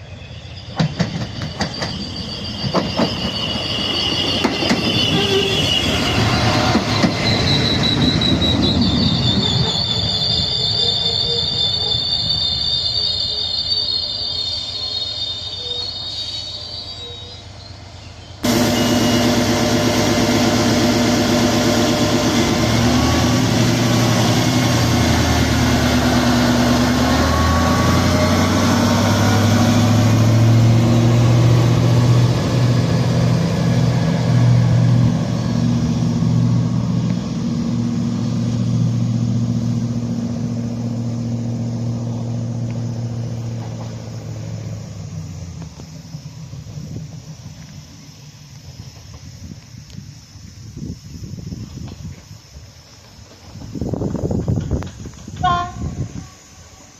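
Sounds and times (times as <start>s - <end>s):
train diesel engine running: 0.0s - 56.9s.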